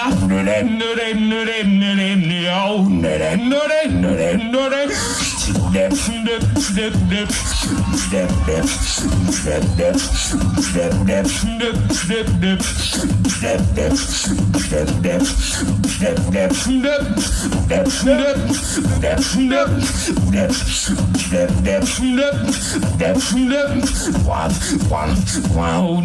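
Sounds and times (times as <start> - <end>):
beatboxing into a microphone: 0.0 - 26.0.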